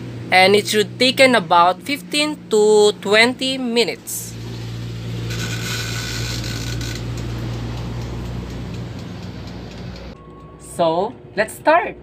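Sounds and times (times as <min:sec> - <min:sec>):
electric oven hum: 0:00.0 - 0:12.0.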